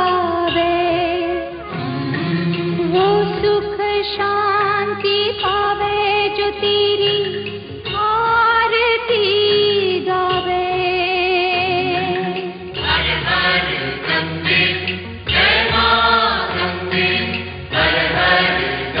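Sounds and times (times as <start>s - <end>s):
voices singing devotional song: 0.0s - 7.5s, 8.2s - 19.0s
musical accompaniment: 0.0s - 19.0s.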